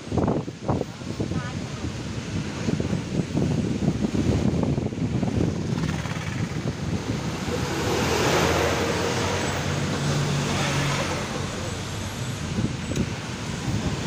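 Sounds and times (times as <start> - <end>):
tyres hissing on wet road: 0.0 - 14.0
wind: 0.0 - 14.0.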